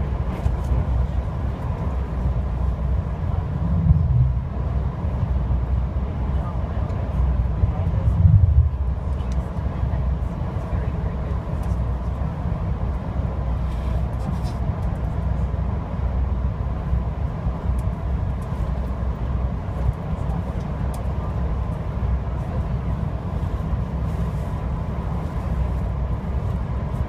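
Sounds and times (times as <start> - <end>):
train car rumbling in motion: 0.0 - 27.0.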